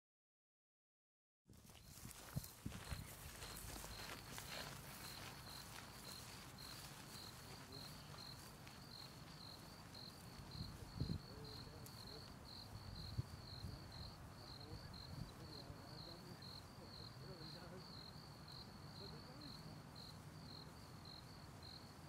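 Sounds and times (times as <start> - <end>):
cricket chirping: 1.7 - 22.0.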